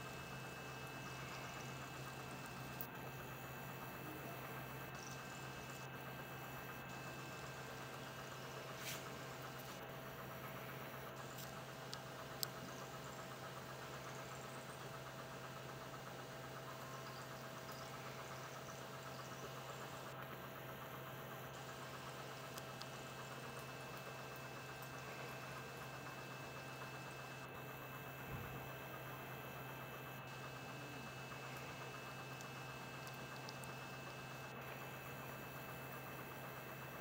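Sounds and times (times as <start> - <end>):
faint thin whining tones: 0.0 - 37.0
low electrical hum: 0.0 - 37.0.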